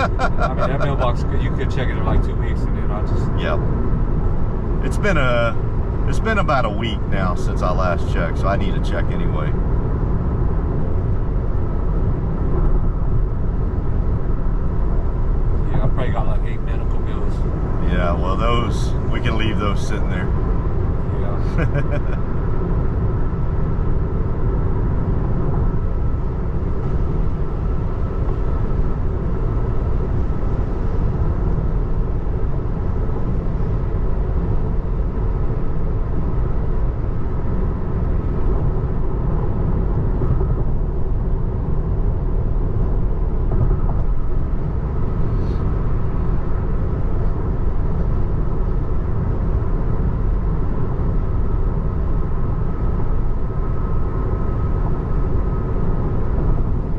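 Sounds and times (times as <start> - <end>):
road and tyre rumble in car cabin: 0.0 - 56.9.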